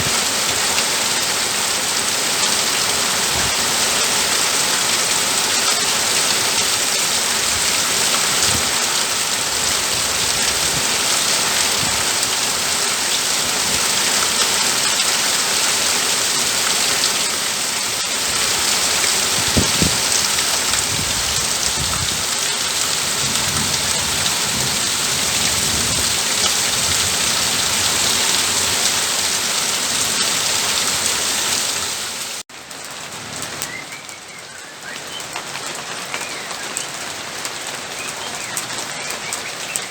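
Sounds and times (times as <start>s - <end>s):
heavy rain drumming on roof: 0.0s - 39.9s.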